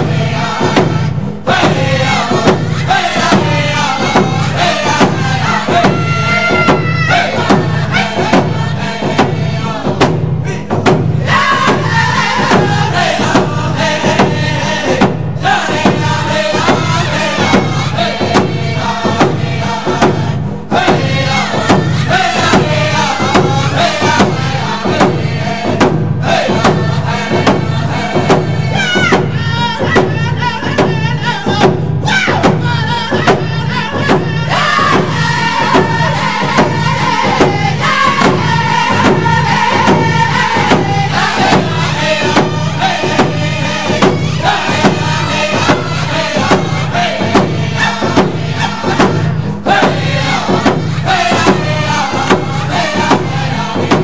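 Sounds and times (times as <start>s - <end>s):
group chanting: 0.0s - 54.0s
steady drumbeat: 0.0s - 54.0s.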